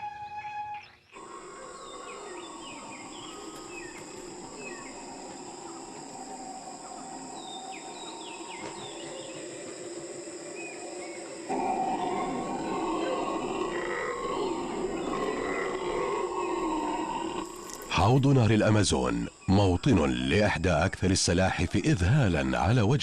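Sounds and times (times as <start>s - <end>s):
high insect trilling: 1.2s - 20.3s.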